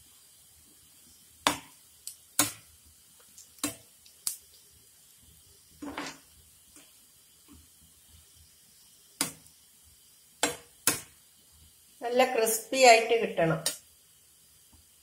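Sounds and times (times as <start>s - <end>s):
hot oil hissing: 0.0s - 15.0s.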